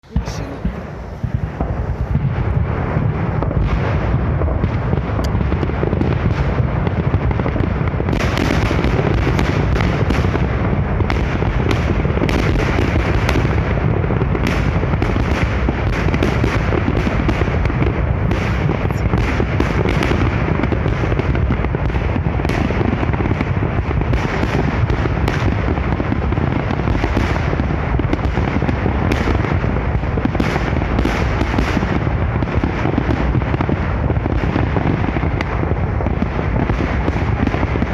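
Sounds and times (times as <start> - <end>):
fireworks barrage rumbling: 0.0 - 37.9
sharp firework cracks: 0.0 - 37.9.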